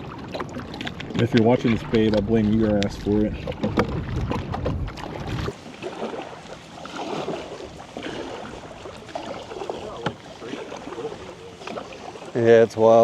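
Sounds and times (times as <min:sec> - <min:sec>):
paddle strokes splashing in water: 0:00.0 - 0:13.0.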